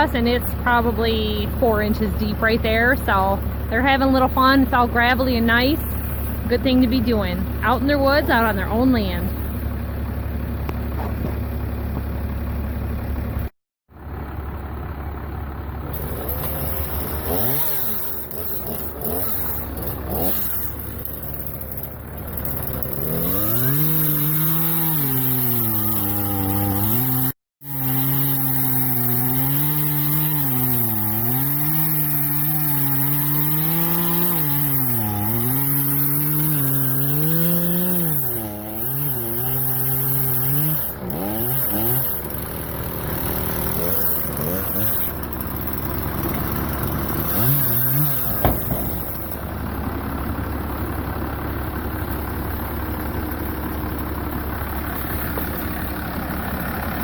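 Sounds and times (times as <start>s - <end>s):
chainsaw cutting wood: 0.0s - 13.5s, 15.8s - 57.0s.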